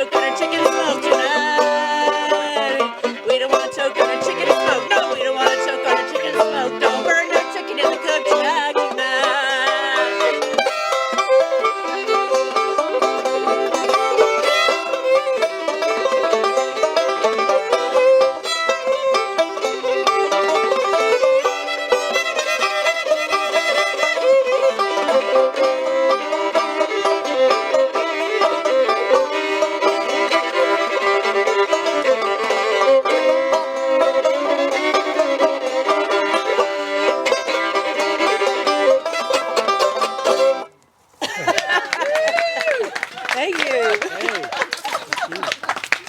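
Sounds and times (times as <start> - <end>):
acoustic string folk music: 0.0 - 46.0.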